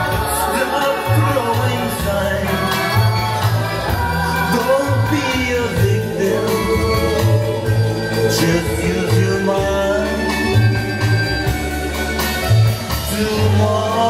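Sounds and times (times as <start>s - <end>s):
latin-flavoured song: 0.0s - 14.0s
repeating bass line: 0.0s - 14.0s.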